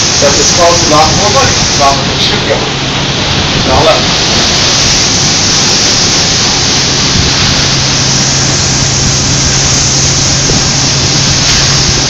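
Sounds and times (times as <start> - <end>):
engine room rushing noise: 0.0 - 12.0
low steady hum: 0.0 - 12.0.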